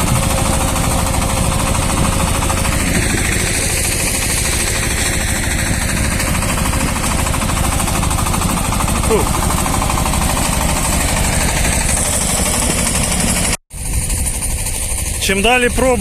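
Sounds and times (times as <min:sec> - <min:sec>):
diesel engine running under load: 0:00.0 - 0:16.0
rotary tiller clatter: 0:00.0 - 0:16.0.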